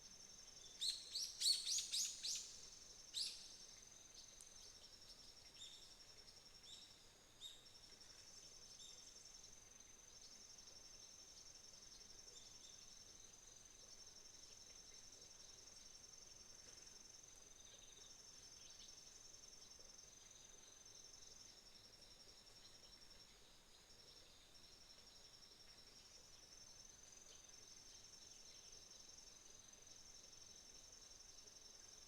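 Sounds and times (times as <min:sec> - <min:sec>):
crickets trilling steadily: 0:00.0 - 0:32.0
soft outdoor hiss: 0:00.0 - 0:32.0.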